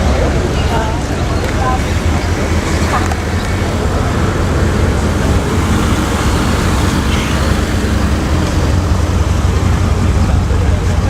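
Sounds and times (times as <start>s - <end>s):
car engine rumble: 0.0s - 11.0s
road traffic noise: 0.0s - 11.0s.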